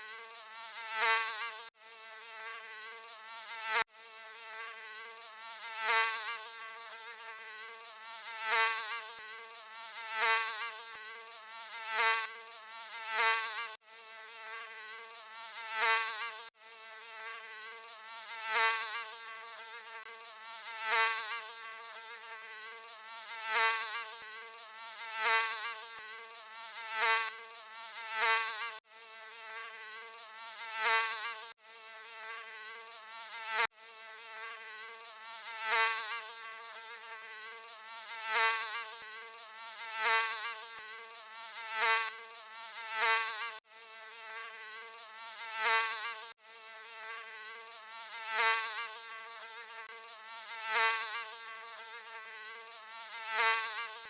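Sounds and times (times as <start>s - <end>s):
mosquito buzzing: 0.0s - 54.0s.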